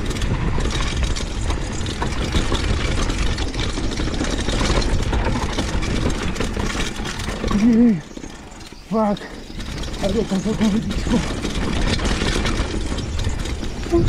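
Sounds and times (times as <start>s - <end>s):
bike rattling and clattering: 0.0s - 14.0s
tyre and wind rumble: 0.0s - 14.0s.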